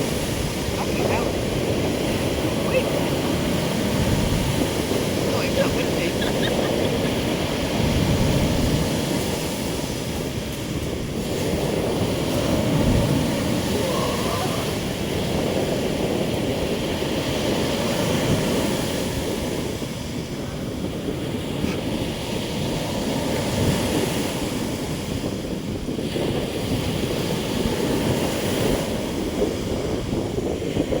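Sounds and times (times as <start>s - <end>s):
sea waves breaking on shore: 0.0s - 31.0s
wind buffeting microphone: 0.0s - 31.0s.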